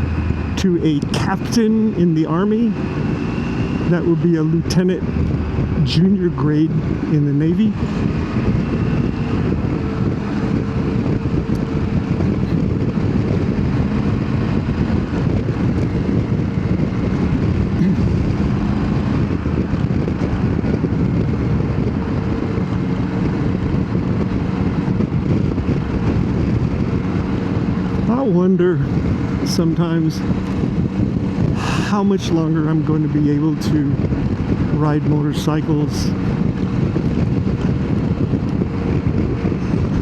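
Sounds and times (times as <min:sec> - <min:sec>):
motorcycle engine cruising: 0:00.0 - 0:40.0
wind rush: 0:00.0 - 0:40.0.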